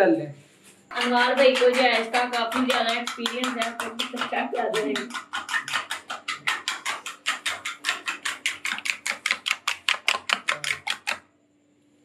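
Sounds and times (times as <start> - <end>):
spoon clicking against ceramic bowl: 0.9 - 11.2.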